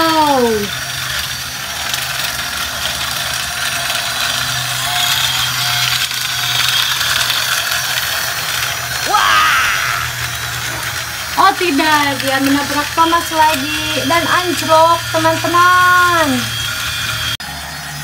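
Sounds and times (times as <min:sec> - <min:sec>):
rattle of wheels and gearboxes: 0:00.0 - 0:09.1, 0:10.2 - 0:18.0
toy train motors whirring: 0:00.0 - 0:18.0.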